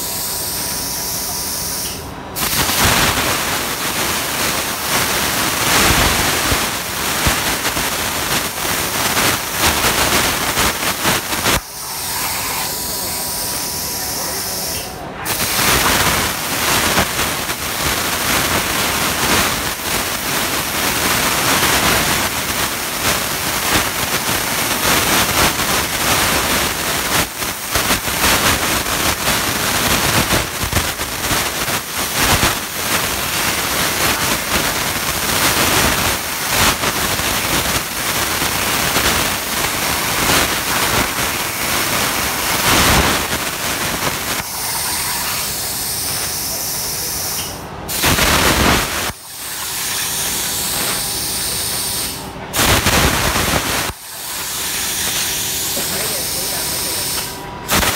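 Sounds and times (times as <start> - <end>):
plasma torch cutting metal: 0.0 - 57.9.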